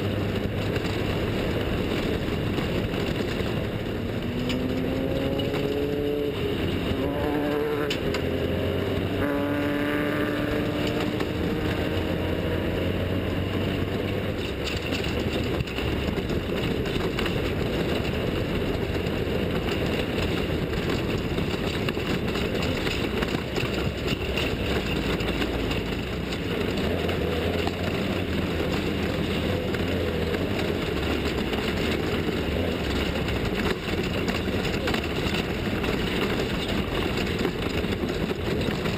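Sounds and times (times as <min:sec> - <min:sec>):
off-road race vehicle engines: 0:00.0 - 0:38.9.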